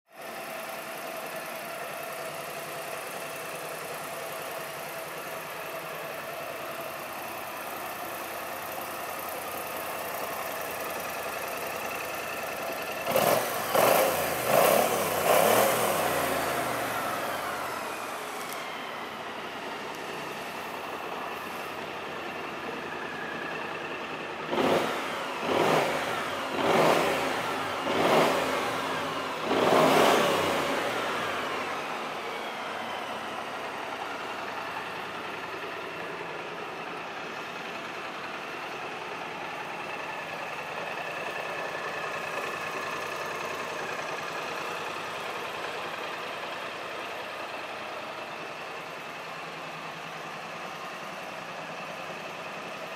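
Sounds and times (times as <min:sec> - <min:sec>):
scooter engine idling and revving: 0:00.0 - 0:52.9.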